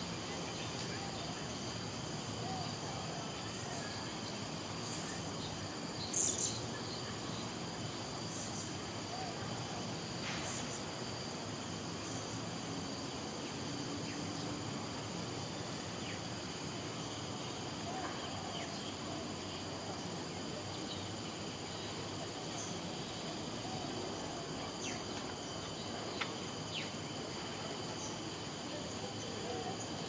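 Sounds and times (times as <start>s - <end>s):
faint insect chirps: 0.0s - 30.0s
high-pitched insect chorus: 0.0s - 30.0s.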